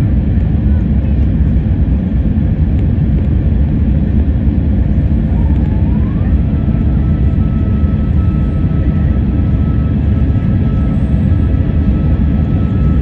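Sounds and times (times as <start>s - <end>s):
aircraft engine and airflow rumble: 0.0s - 13.0s
faint whine: 0.6s - 13.0s.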